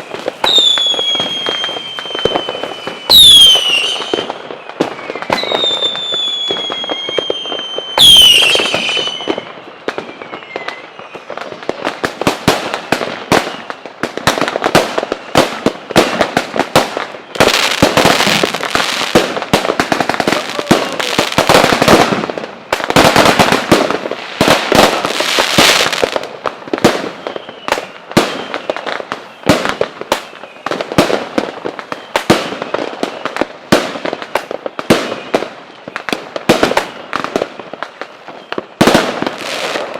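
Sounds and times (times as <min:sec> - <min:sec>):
firework bangs and crackles: 0:00.0 - 0:39.9
firework whistles: 0:00.0 - 0:39.9.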